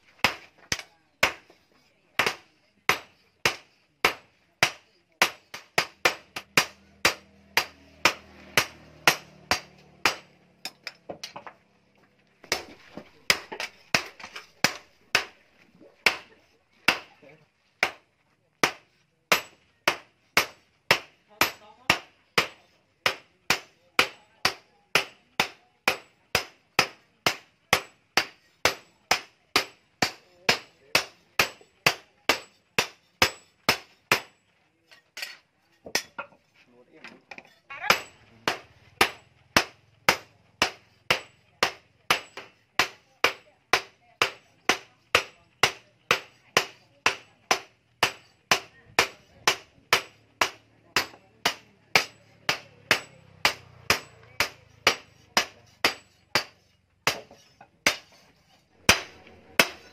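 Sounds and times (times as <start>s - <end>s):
hammer striking metal on anvil: 2.2s - 11.5s, 18.6s - 36.4s, 37.4s - 59.9s.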